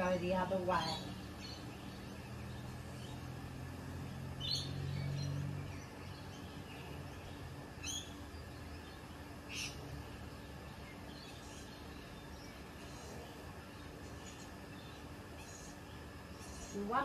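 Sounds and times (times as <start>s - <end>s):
birds chirping: 0.0s - 17.0s
low hum: 0.0s - 17.0s
steady background noise: 0.0s - 17.0s.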